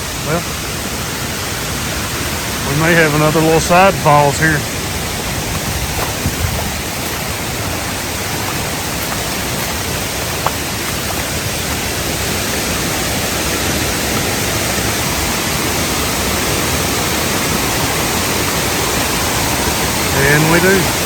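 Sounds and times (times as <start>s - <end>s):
small waterfall rushing: 0.0s - 21.0s.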